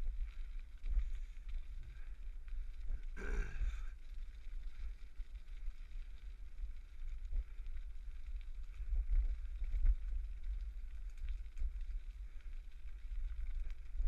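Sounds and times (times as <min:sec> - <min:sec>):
bicycle rolling on unpaved path: 0:00.0 - 0:14.0.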